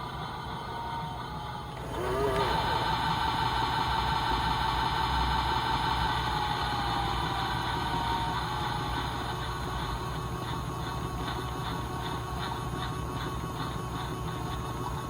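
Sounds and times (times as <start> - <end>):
small electric motor whining: 0.0 - 14.9.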